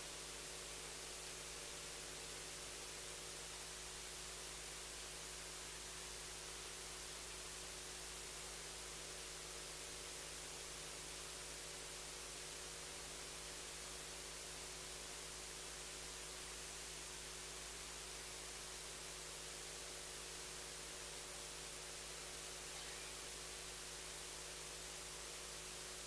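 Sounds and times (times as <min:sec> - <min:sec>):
faint electrical hum: 0:00.0 - 0:26.0
steady hiss: 0:00.0 - 0:26.0.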